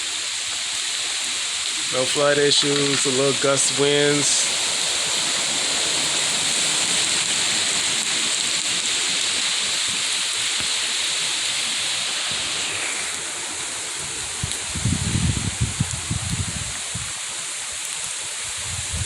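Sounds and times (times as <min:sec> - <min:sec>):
heavy rain and wind hissing: 0:00.0 - 0:19.0.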